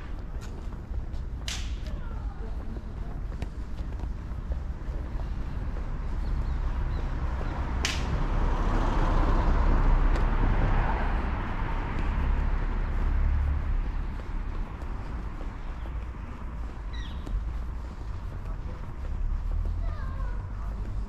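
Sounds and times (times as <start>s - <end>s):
steady low rumble: 0.0s - 21.0s
car passing: 4.0s - 21.0s.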